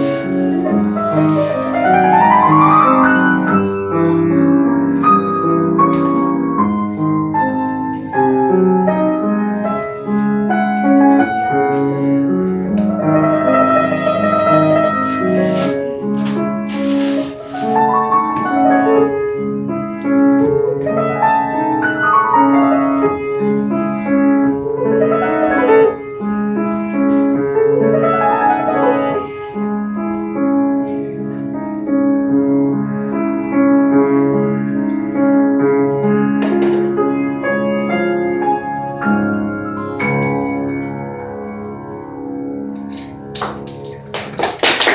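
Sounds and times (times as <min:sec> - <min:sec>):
grand piano playing: 0:00.0 - 0:44.5.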